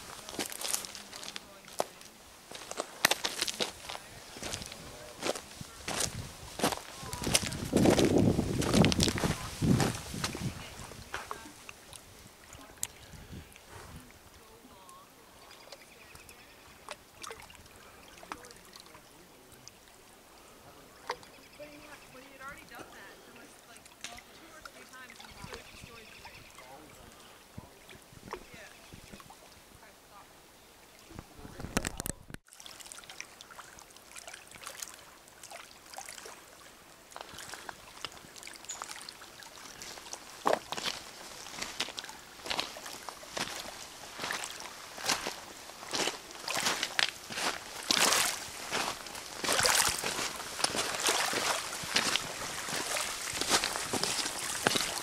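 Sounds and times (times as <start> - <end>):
water slapping: 0.0 - 29.9, 30.9 - 55.0
waves lapping at shore: 0.0 - 31.6, 32.4 - 55.0.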